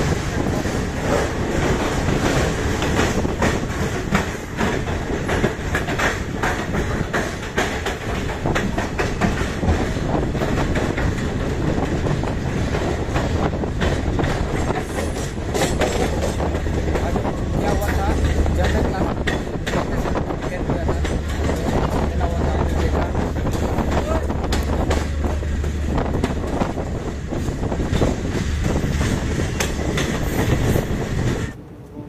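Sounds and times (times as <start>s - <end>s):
wheels clattering over rail joints: 0.0s - 31.6s
train rumble: 0.0s - 32.0s.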